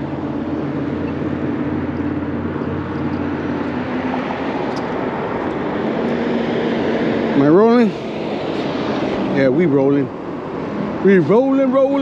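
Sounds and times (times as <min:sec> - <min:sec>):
low engine hum: 0:00.0 - 0:12.0
motor vehicle drone: 0:00.0 - 0:12.0
street traffic hiss: 0:00.0 - 0:12.0.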